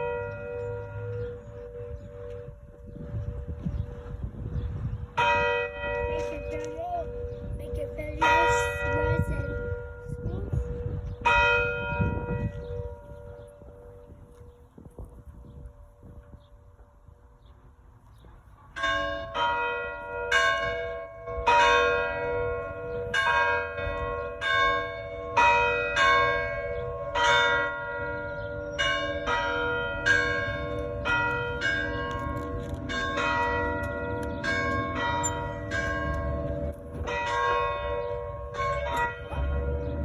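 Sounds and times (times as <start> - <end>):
church bells ringing: 0.0 - 4.2, 5.0 - 14.8, 18.5 - 40.0.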